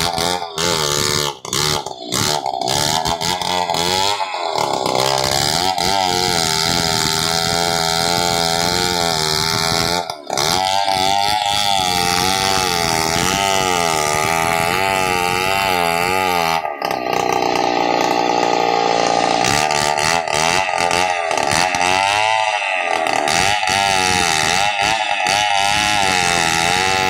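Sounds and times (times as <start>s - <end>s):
chainsaw cutting log: 0.0s - 27.0s.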